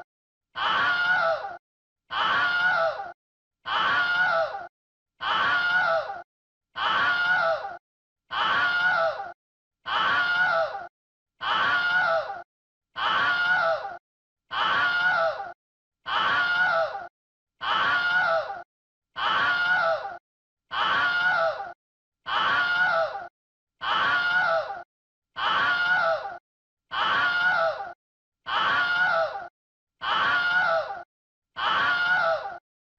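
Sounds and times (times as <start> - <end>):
person screaming: 0.6 - 6.2, 6.8 - 12.4, 13.0 - 18.6, 19.2 - 24.8, 25.4 - 31.0, 31.6 - 32.6.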